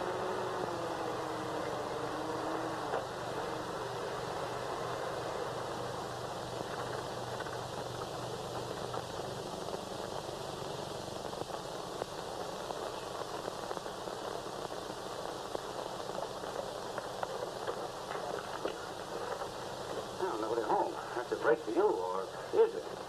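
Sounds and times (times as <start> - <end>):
faint low hum: 0.0 - 23.0
film soundtrack hiss and crackle: 0.0 - 23.0.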